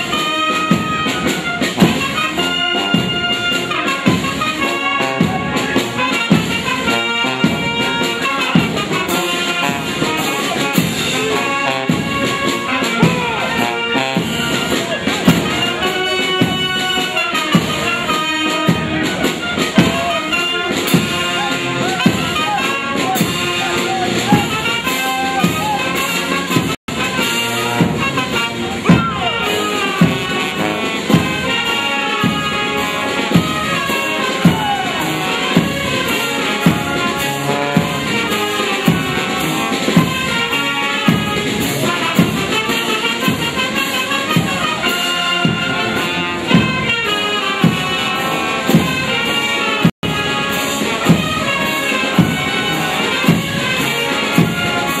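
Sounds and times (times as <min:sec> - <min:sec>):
marching band playing a march: 0:00.0 - 0:55.0.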